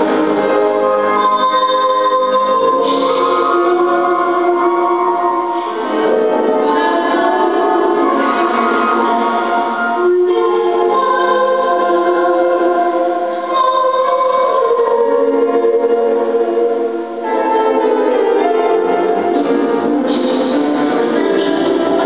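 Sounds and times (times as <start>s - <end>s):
grand piano accompaniment: 0.0s - 22.0s
woman singing: 0.0s - 22.0s.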